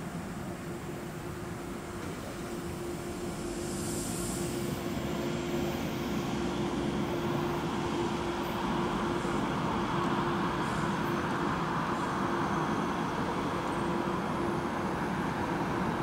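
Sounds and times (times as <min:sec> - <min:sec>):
electric train rumble: 0:00.0 - 0:16.0
steady mid-pitched hum: 0:00.0 - 0:16.0.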